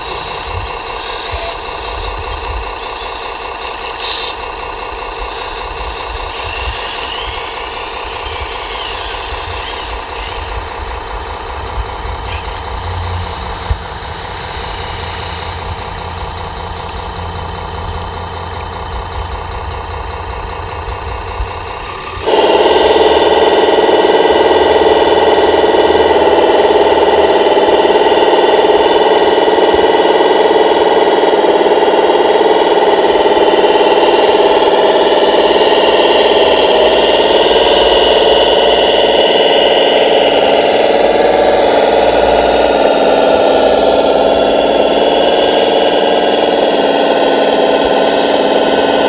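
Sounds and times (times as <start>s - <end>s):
excavator engine drone: 0.0s - 49.0s
louder machine drone: 0.0s - 49.0s.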